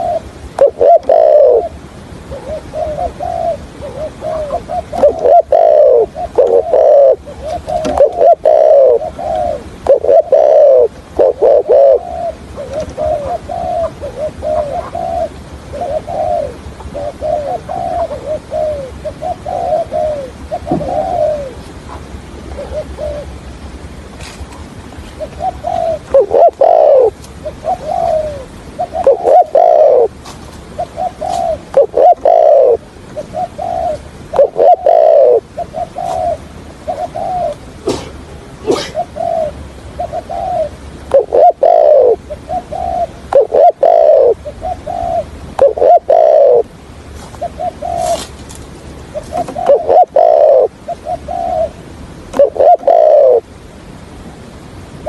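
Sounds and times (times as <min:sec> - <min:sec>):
dove cooing: 0:00.0 - 0:23.6, 0:24.2 - 0:48.3, 0:49.0 - 0:53.5.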